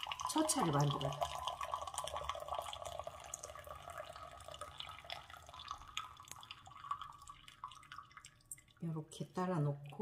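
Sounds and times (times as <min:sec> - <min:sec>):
tea pouring into a glass pitcher: 0:00.0 - 0:10.0.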